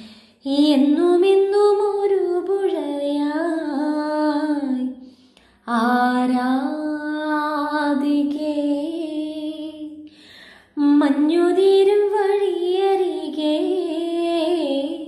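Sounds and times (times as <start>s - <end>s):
woman singing slow song: 0.0s - 15.0s.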